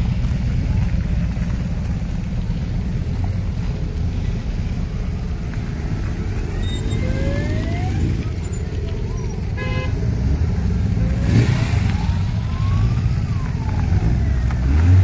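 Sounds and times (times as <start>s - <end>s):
motorcycle engines rumbling: 0.0s - 15.0s.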